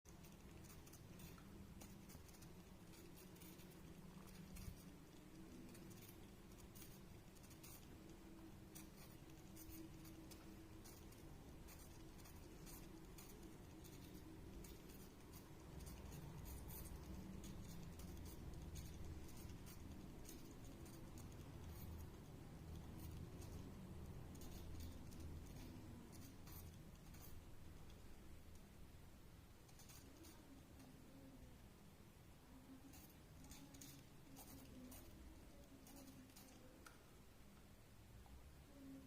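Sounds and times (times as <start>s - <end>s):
bird beak pecking and crunching: 0.1s - 28.7s, 29.6s - 31.0s, 32.7s - 37.0s
low steady hum: 0.1s - 39.0s.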